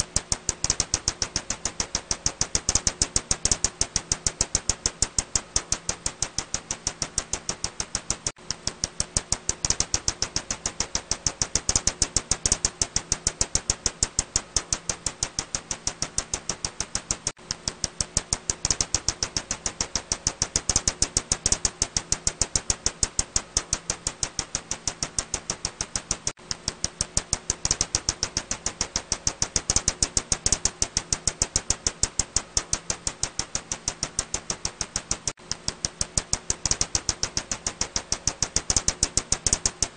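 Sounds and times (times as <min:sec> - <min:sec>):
bat echolocation clicks: 0:00.1 - 0:39.9.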